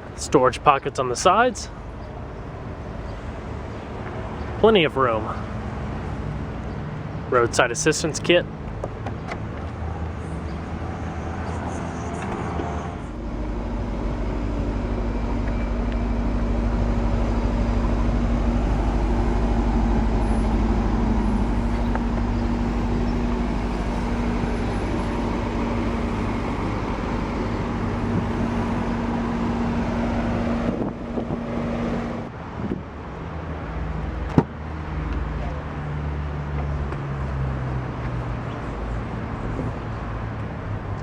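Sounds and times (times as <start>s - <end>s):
low engine rumble: 0.0s - 41.0s.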